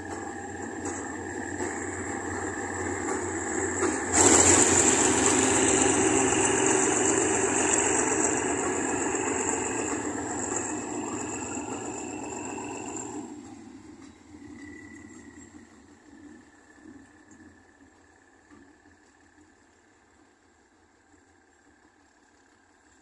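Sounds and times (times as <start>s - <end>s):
diesel locomotive passing: 0.0s - 20.4s.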